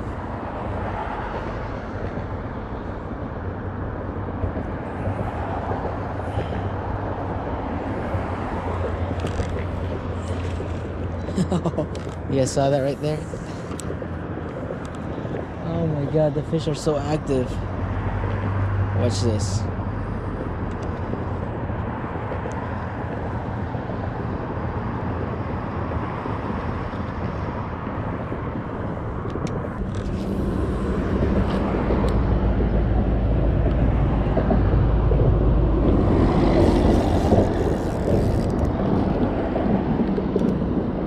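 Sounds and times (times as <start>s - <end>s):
low rumble of motors: 0.0s - 41.0s
wind on microphone: 0.0s - 41.0s.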